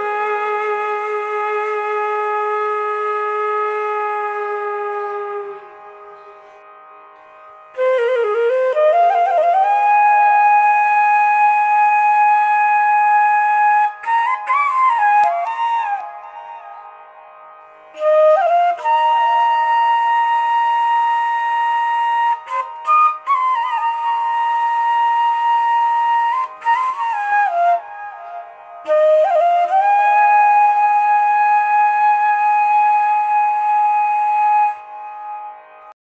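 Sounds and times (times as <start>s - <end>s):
slow solo flute melody: 0.0s - 6.6s, 7.7s - 17.0s, 17.9s - 35.9s.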